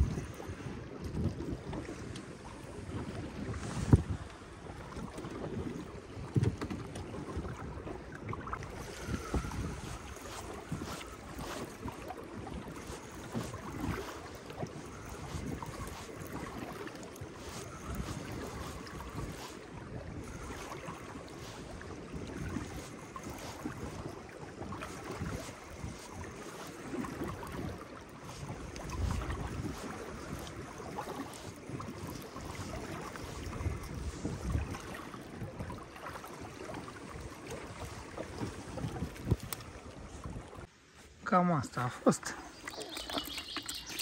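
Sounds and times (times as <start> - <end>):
wind buffeting microphone: 0.0 - 40.7
waves slapping against boat: 0.0 - 44.0.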